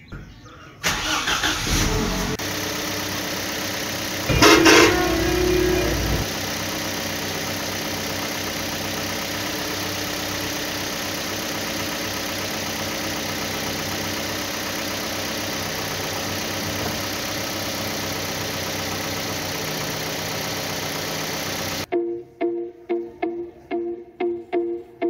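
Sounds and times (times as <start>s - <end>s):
truck engine idling: 0.9s - 21.9s.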